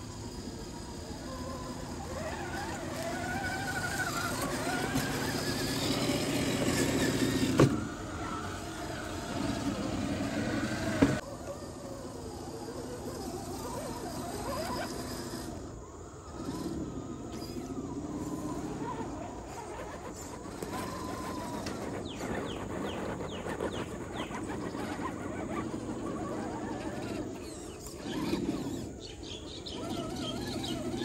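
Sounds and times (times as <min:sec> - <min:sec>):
rc truck motors whining: 0:00.0 - 0:31.0.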